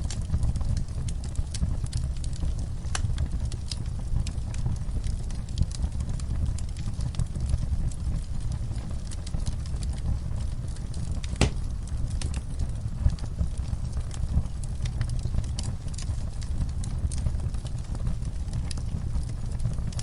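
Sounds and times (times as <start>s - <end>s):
fire pops and snaps: 0.0s - 20.0s
low rumble of flames: 0.0s - 20.0s
wood fire crackling: 0.0s - 20.0s.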